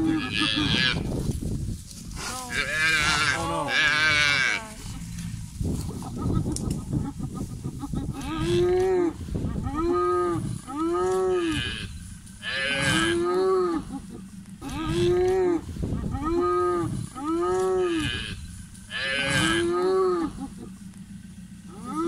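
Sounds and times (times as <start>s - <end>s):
buffalo calf bawling: 0.0s - 1.1s, 2.2s - 5.3s, 5.9s - 20.8s, 21.6s - 22.0s
low rumbling noise: 0.0s - 22.0s.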